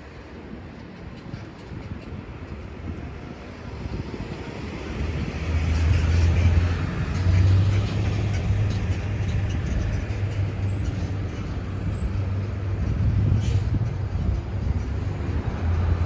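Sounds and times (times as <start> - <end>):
vehicle engine humming: 0.1 - 16.0.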